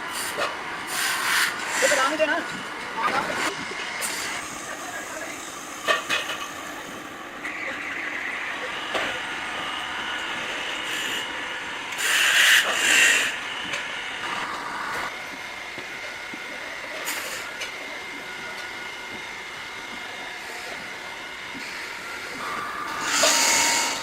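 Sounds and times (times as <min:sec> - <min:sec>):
machine running with faint whine: 0:01.8 - 0:24.0.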